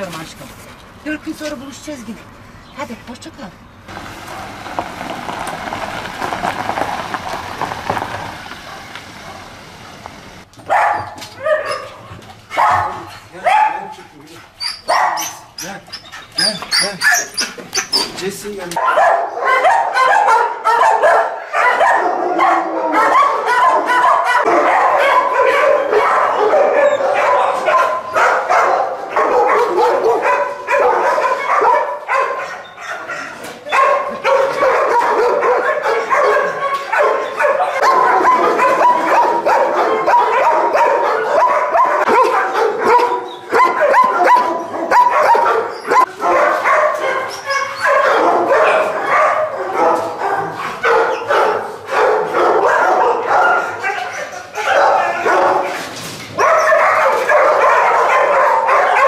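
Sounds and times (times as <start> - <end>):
dogs barking and whining: 6.2 - 59.0.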